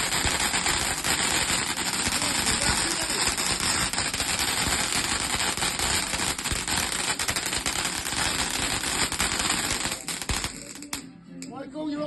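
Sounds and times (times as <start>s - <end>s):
firework barrage crackling: 0.0s - 11.0s.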